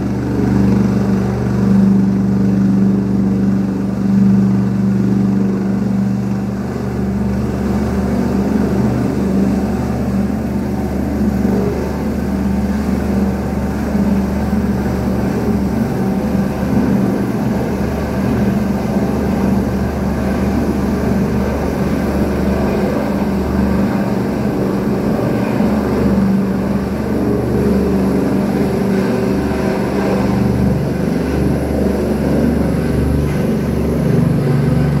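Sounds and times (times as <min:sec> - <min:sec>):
helicopter drone: 0:00.0 - 0:35.0.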